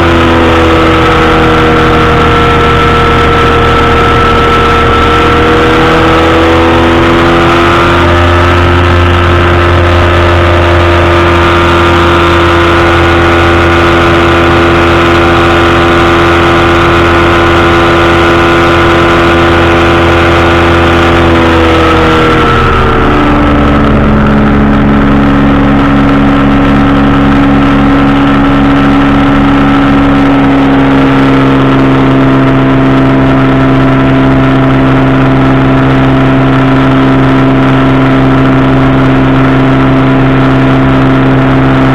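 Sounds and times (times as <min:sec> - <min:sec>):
engine and propeller running: 0:00.0 - 0:41.9.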